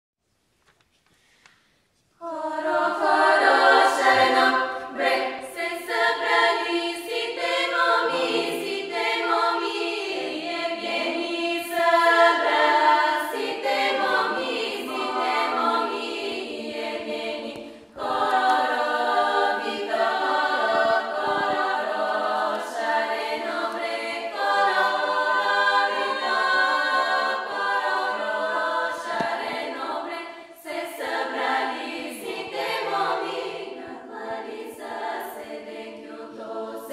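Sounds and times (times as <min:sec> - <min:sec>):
women's choir singing a cappella: 0:02.2 - 0:36.9.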